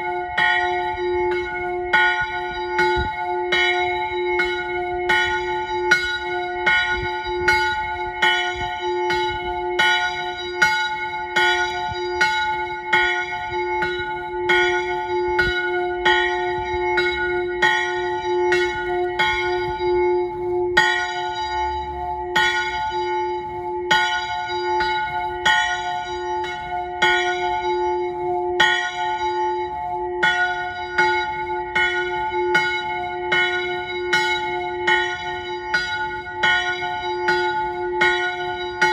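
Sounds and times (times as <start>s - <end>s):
small chapel bell ringing: 0.0s - 38.9s.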